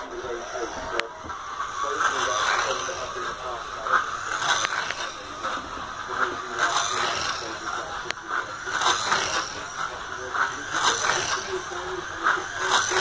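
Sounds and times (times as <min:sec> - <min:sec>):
slot car motor whirring: 0:00.0 - 0:13.0.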